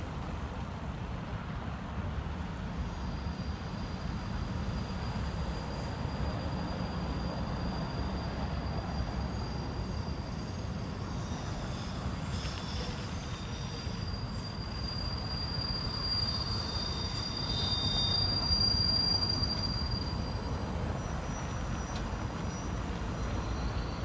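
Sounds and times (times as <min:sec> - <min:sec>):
freight train passing: 0:00.0 - 0:24.0
train wheels squealing: 0:02.5 - 0:24.0.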